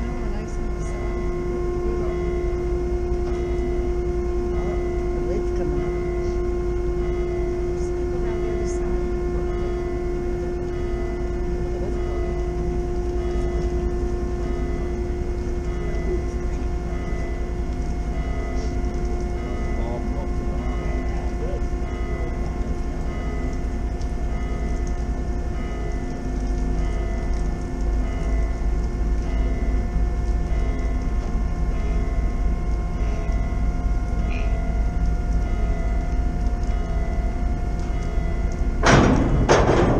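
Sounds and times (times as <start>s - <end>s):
deep rumble: 0.0s - 39.9s
ship engines humming: 0.0s - 39.9s.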